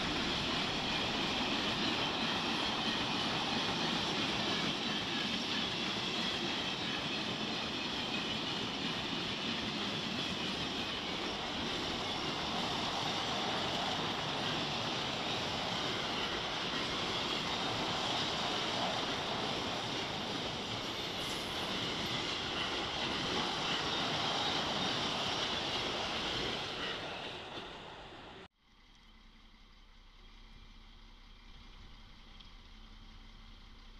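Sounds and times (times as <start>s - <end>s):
train wheels rushing on rails: 0.0s - 28.5s.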